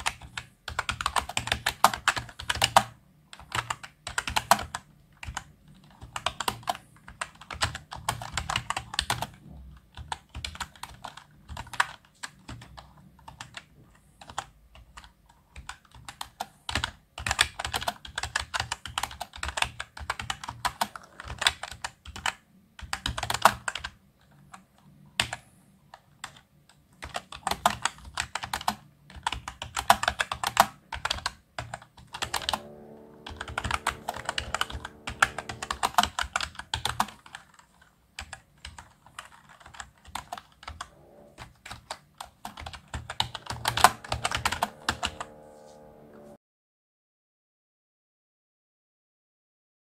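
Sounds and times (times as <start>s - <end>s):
typing on computer keyboard: 0.0s - 24.6s, 25.2s - 45.4s.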